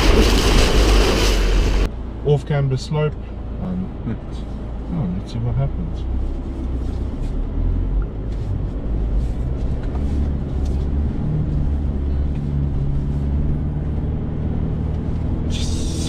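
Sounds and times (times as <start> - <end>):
diesel engine low drone: 0.0 - 16.0.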